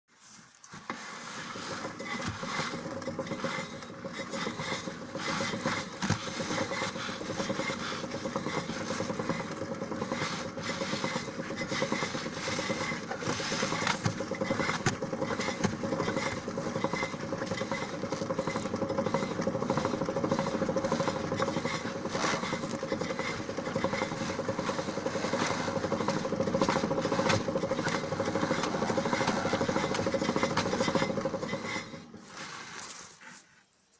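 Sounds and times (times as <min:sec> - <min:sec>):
transmission whirring: 0:01.8 - 0:32.4.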